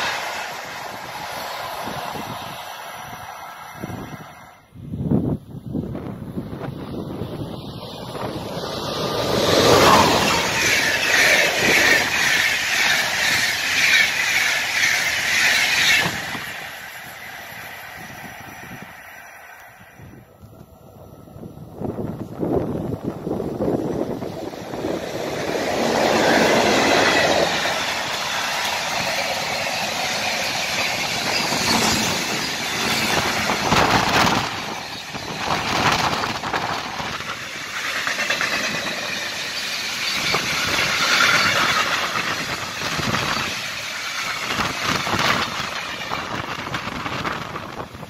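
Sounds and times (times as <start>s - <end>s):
freight train passing: 0.0s - 48.0s
wheels rumbling on rail: 0.0s - 48.0s.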